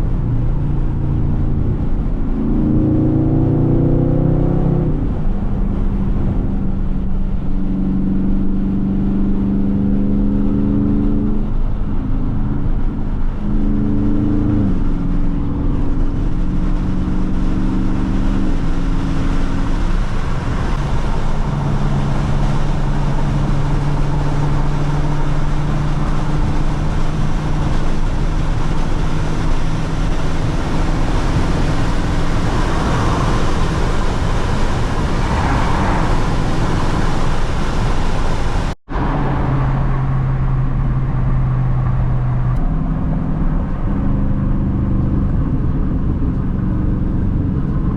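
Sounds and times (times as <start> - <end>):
car engine cruising: 0.0 - 47.9.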